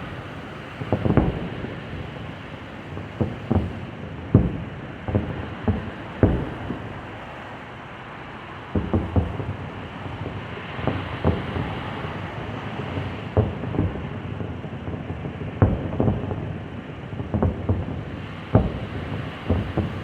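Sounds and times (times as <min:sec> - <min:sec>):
firework shells booming: 0:00.0 - 0:07.2, 0:08.7 - 0:11.7, 0:13.0 - 0:20.0.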